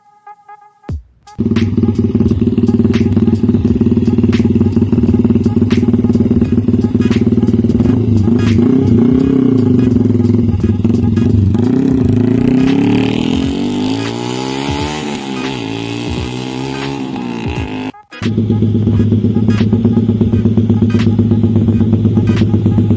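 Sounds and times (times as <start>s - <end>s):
motorcycle engine idling and revving: 1.3s - 22.9s.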